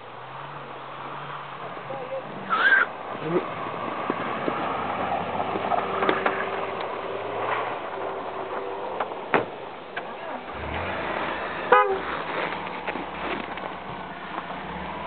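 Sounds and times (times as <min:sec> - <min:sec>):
car engine working hard: 0:00.0 - 0:15.0.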